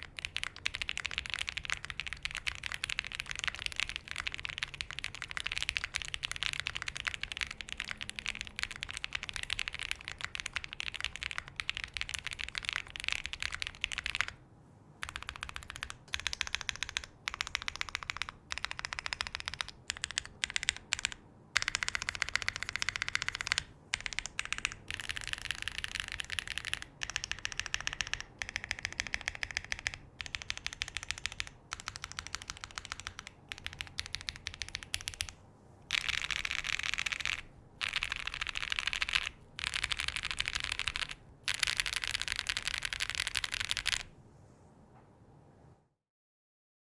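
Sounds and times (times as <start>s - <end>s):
mechanical keyboard typing: 0.0s - 14.4s, 15.0s - 44.1s.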